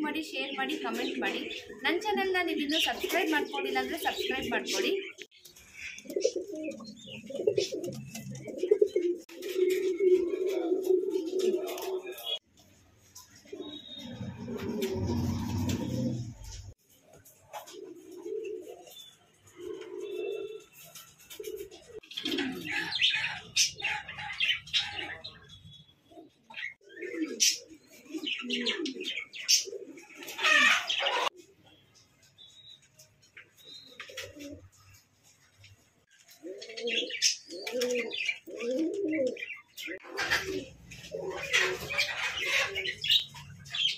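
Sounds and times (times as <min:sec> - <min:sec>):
pigeons cooing: 0:00.7 - 0:12.4, 0:13.2 - 0:25.4, 0:26.1 - 0:31.6, 0:33.6 - 0:35.4, 0:36.1 - 0:43.9.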